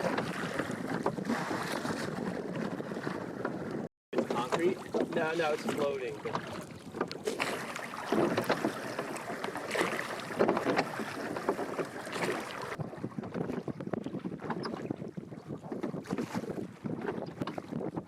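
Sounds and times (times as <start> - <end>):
water sloshing around boat: 0.0 - 18.0
wind on microphone: 0.0 - 18.0.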